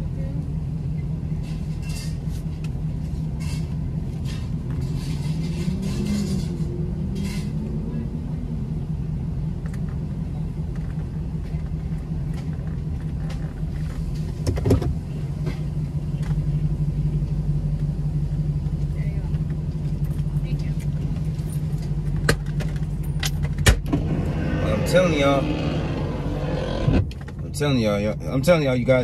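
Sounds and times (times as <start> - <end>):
truck idling: 0.0 - 29.0.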